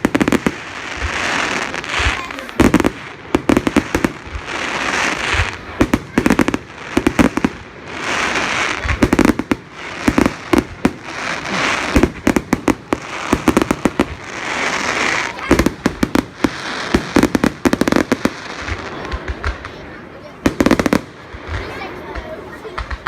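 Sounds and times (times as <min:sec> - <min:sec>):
fireworks bangs and crackles: 0:00.0 - 0:23.0
fireworks whooshing: 0:00.0 - 0:23.0.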